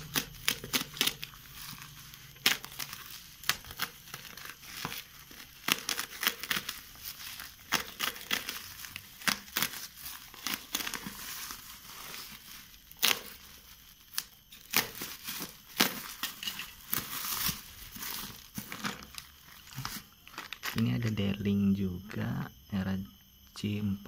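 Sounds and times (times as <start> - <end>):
bubble wrap crinkling and crackling: 0.0 - 21.2.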